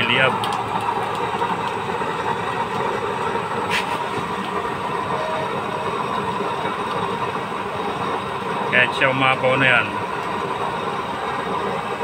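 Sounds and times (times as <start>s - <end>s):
burner flame rushing: 0.0s - 12.0s.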